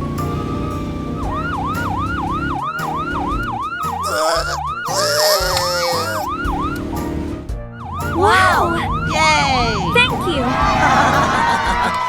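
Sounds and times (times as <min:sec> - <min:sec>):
background music: 0:00.0 - 0:12.0
cartoon police siren wailing: 0:00.5 - 0:06.9, 0:08.0 - 0:12.0.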